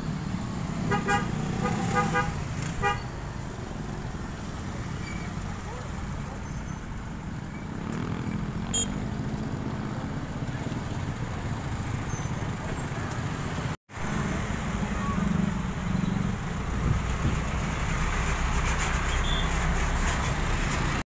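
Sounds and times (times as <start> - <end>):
traffic passing: 0.0 - 21.0
truck engine rumble: 0.0 - 21.0.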